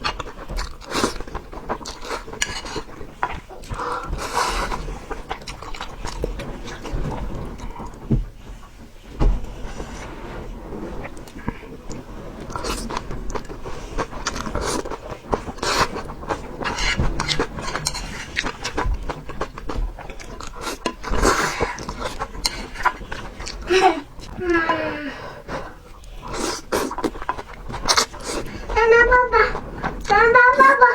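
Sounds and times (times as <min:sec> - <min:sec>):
person chewing and crunching food: 0:00.0 - 0:08.3, 0:11.0 - 0:24.4, 0:25.4 - 0:28.9.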